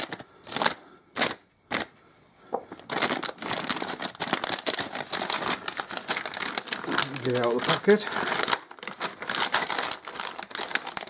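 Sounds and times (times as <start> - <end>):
plastic bag crinkling: 0.0 - 1.9, 2.7 - 11.0.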